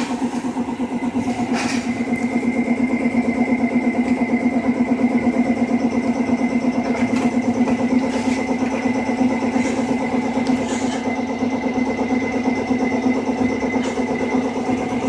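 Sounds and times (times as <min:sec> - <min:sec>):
machinery pulsing hum: 0:00.0 - 0:15.0.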